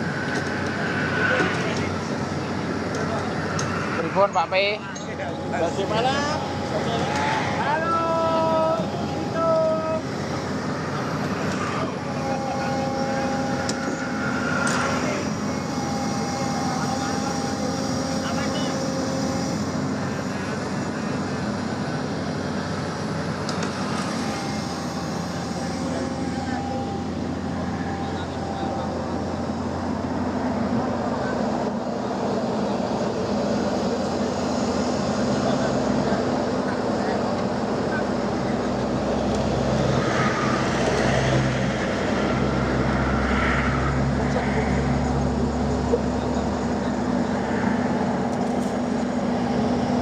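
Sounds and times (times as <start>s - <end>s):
diesel engine droning: 0.0s - 50.0s
faint high whine: 0.0s - 50.0s.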